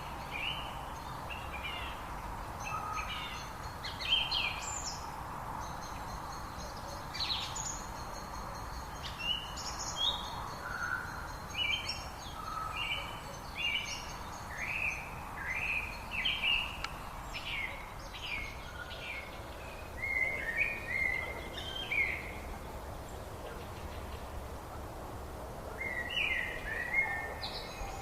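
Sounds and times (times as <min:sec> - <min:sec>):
songbirds chirping and whistling: 0:00.0 - 0:24.4, 0:25.7 - 0:28.0
low background hiss: 0:00.0 - 0:28.0.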